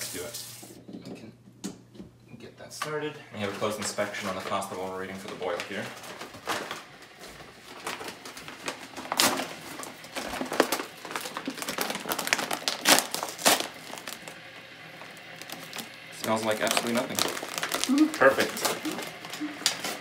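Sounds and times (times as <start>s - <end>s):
paper bag crinkling: 3.4s - 20.0s.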